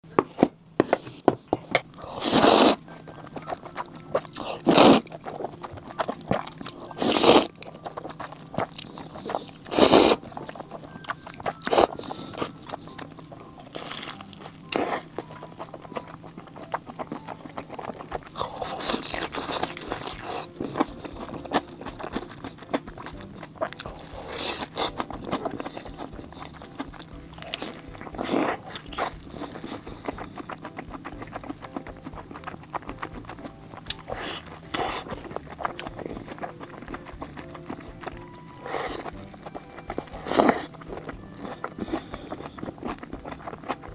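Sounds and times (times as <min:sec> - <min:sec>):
small crackles: 0:01.1 - 0:43.9
crunching crispy fried food: 0:01.9 - 0:43.9.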